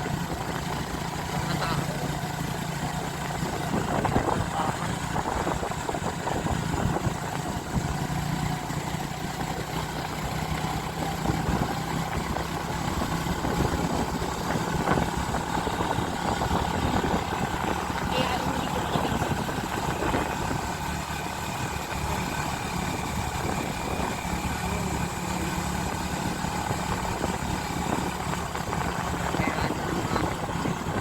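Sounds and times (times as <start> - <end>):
vehicle engine running: 0.0 - 31.0
wind and road noise: 0.0 - 31.0.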